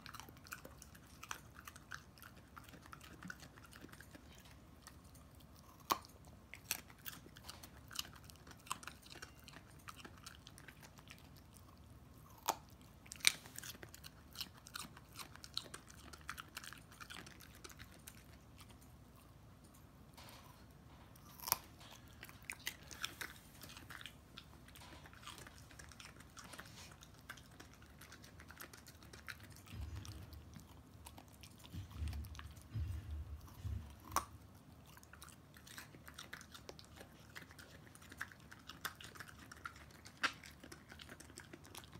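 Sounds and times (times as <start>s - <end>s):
dog crunching carrot: 0.0s - 41.9s.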